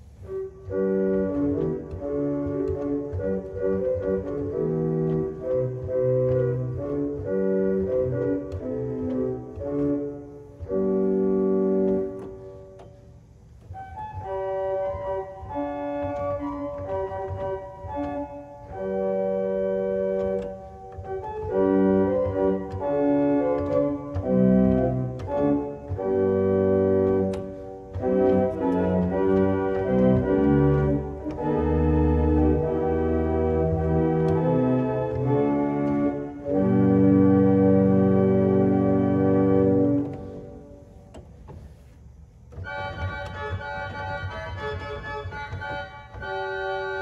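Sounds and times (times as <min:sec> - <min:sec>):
pipe organ sustained chords: 0:00.0 - 0:47.0.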